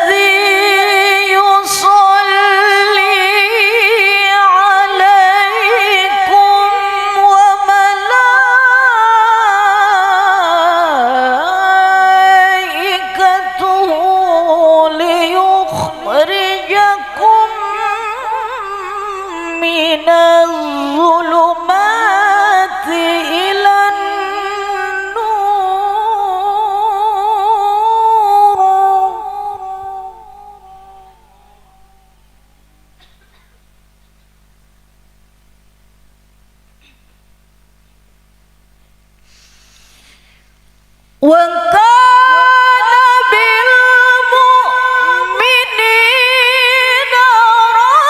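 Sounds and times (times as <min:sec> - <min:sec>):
woman reciting melodically: 0:00.0 - 0:32.0, 0:41.2 - 0:48.0.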